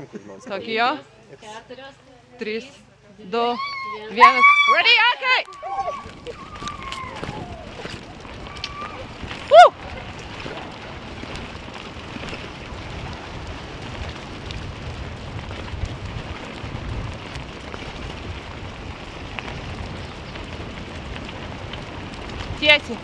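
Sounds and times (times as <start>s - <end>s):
tyres rolling over dirt trail: 3.4s - 23.0s
wind on microphone: 4.2s - 23.0s.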